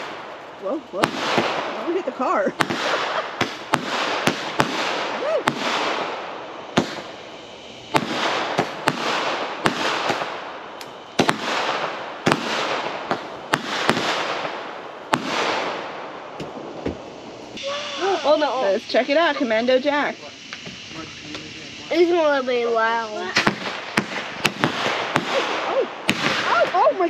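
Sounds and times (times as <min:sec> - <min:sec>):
fireworks bangs: 0:00.0 - 0:27.0
fireworks hissing crackle: 0:00.0 - 0:27.0.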